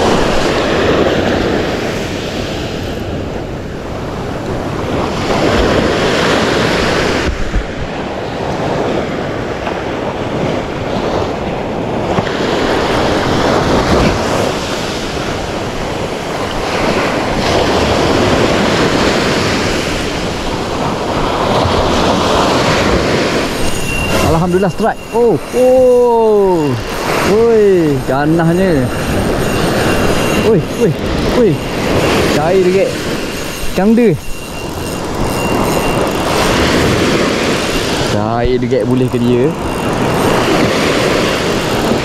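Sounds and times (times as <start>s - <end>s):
waves breaking on shore: 0.0s - 42.0s
wind on microphone: 0.0s - 42.0s.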